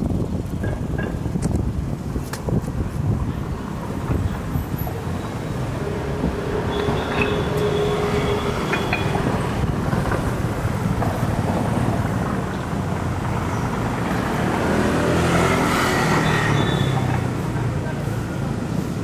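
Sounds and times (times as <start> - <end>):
cars driving past: 3.4 - 19.0.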